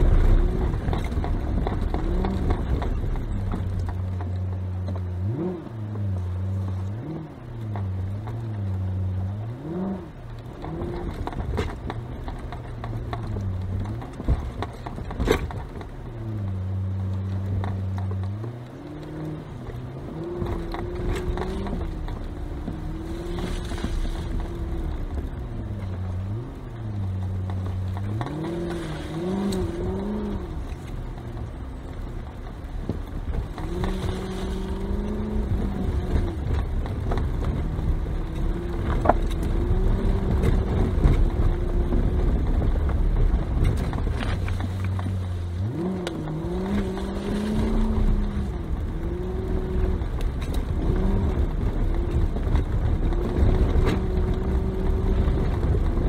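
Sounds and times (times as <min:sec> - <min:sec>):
suspension knocks over bumps: 0:00.0 - 0:08.9, 0:10.2 - 0:56.0
car engine from inside cabin: 0:00.0 - 0:56.0
rumble from rough ground: 0:00.0 - 0:56.0.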